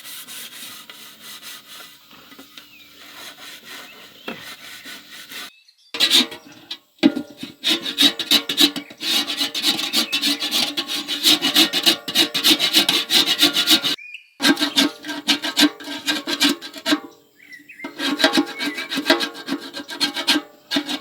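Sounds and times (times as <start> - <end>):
rhythmic rasping strokes: 3.0 - 17.1, 17.8 - 21.0.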